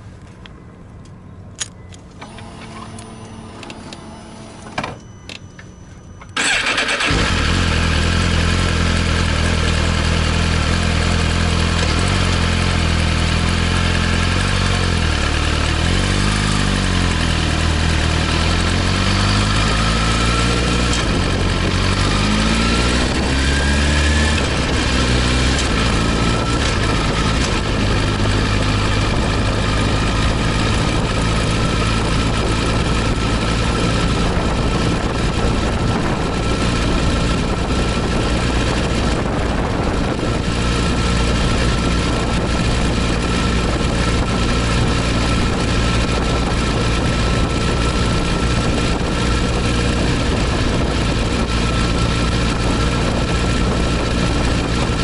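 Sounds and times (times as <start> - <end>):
motorcycle engine starting and revving: 2.2 - 5.4, 6.3 - 55.0.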